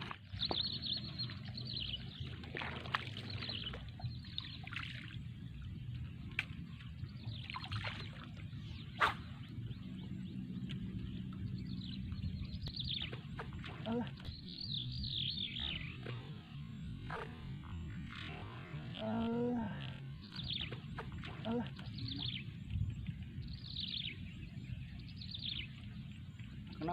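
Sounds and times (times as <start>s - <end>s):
birds chirping: 0.0s - 26.9s
low rumble: 0.0s - 26.9s.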